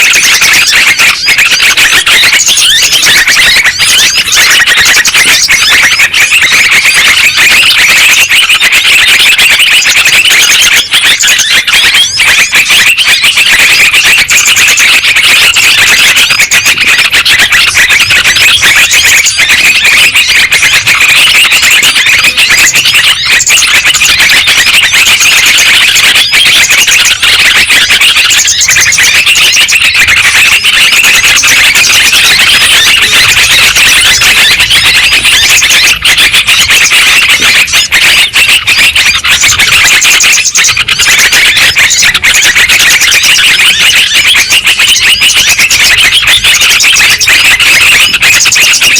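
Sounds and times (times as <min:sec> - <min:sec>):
bird calls chattering: 0:00.0 - 0:48.9.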